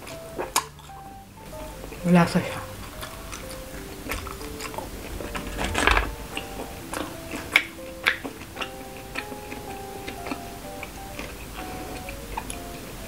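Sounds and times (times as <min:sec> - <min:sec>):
mouth chewing sounds: 0:00.0 - 0:13.0
soft background music: 0:00.0 - 0:13.0.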